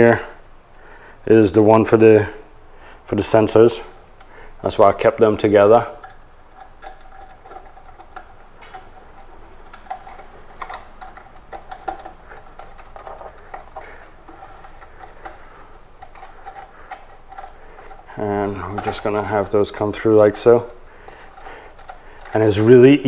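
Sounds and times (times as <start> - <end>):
wires clicking and rustling: 3.2 - 23.0.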